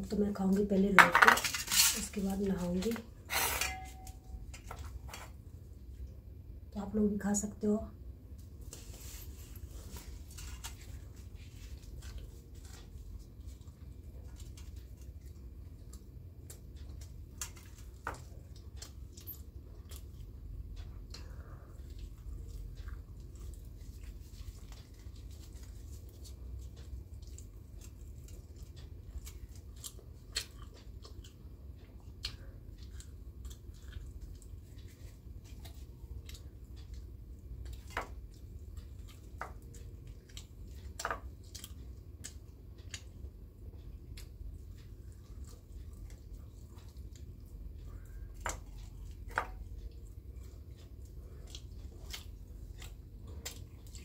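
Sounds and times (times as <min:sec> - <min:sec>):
steady low hum: 0:00.0 - 0:54.0
chewing and mouth sounds: 0:08.6 - 0:54.0.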